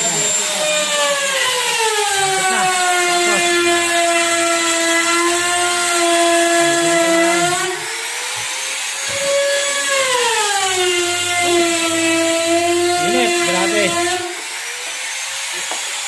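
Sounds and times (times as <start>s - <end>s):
power tool motor whine: 0.0s - 16.0s.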